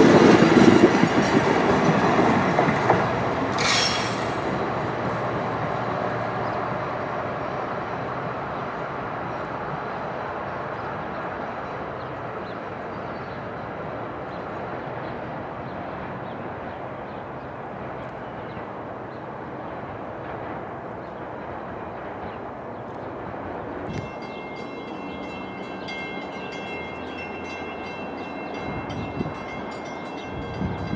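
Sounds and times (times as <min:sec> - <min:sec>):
train rumble: 0:00.0 - 0:30.9.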